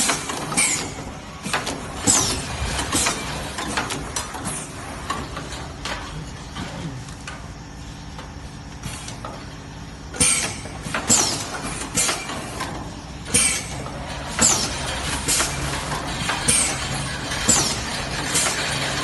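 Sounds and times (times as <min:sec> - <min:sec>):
pneumatic machine working: 0:00.0 - 0:19.0
workshop machine noise: 0:00.0 - 0:19.0.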